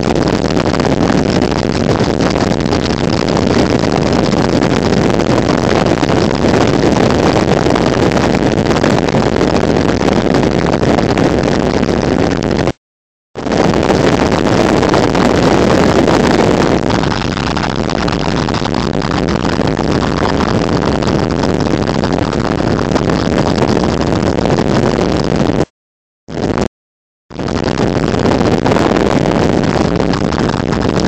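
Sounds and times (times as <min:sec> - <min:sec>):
car road and wind noise: 0:00.0 - 0:12.8, 0:13.4 - 0:25.7, 0:27.3 - 0:31.0.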